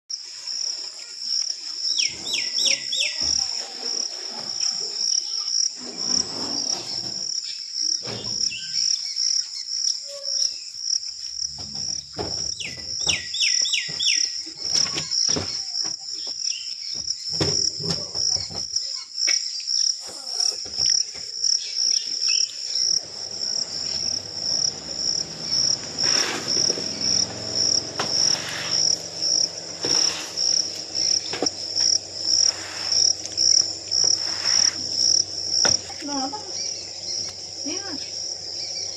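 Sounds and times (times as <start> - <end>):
insect trilling: 0.5 - 38.9.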